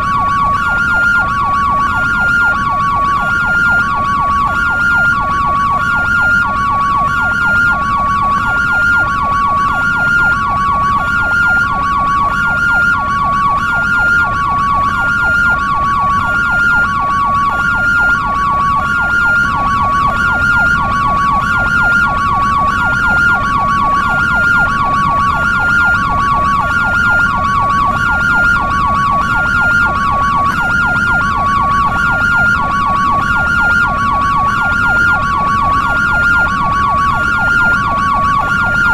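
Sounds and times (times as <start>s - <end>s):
ambulance siren two-tone: 0.0s - 38.9s
fast siren yelp: 0.0s - 38.9s.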